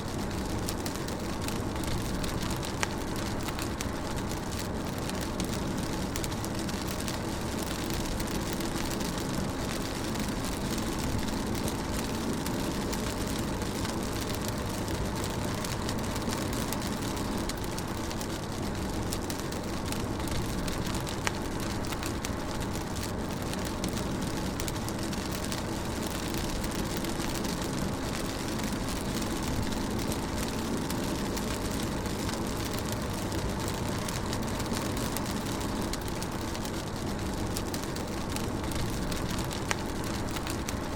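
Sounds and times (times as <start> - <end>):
rain on a car: 0.0 - 40.9.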